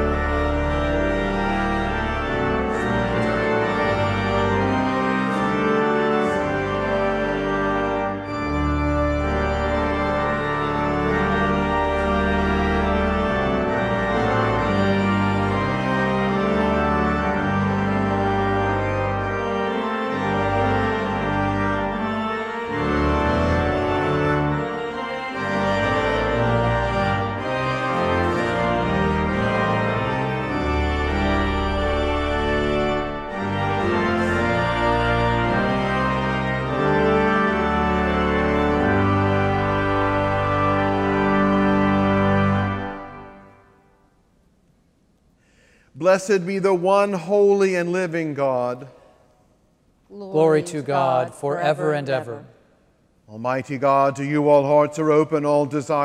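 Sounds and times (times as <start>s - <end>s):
pipe organ chords: 0.0s - 44.4s, 45.4s - 49.1s, 53.2s - 56.0s.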